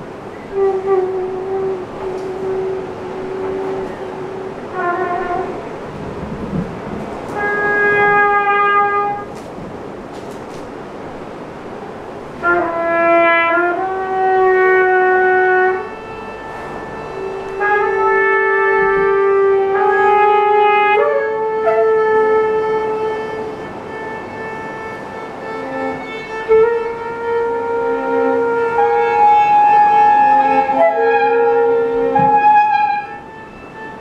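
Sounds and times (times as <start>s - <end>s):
violin long held notes: 0.0s - 9.5s, 11.2s - 34.0s
acoustic instruments playing: 0.0s - 34.0s.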